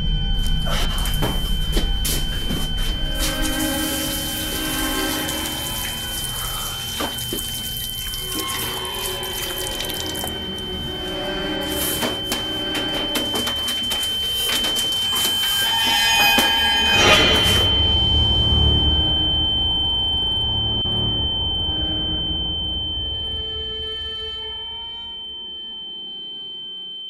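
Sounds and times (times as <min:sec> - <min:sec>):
steady high-pitched tone: 0:00.0 - 0:27.0.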